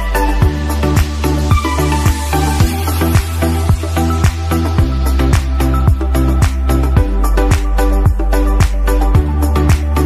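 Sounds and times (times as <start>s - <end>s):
dance music: 0.0s - 10.0s.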